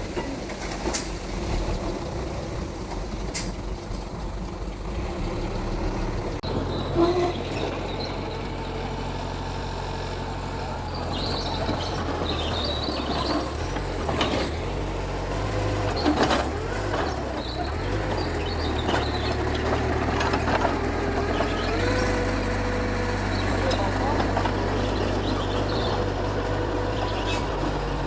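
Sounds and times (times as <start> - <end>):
bulldozer diesel engine: 0.0 - 28.0.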